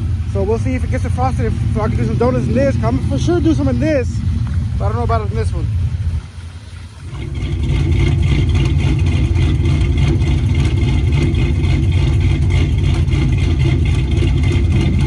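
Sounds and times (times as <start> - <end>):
truck engines idling: 0.0 - 15.0.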